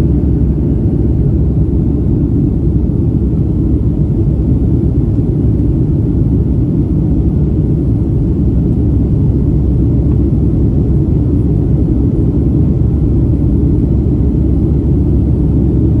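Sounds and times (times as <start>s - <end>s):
jet airliner rumbling: 0.0s - 16.0s.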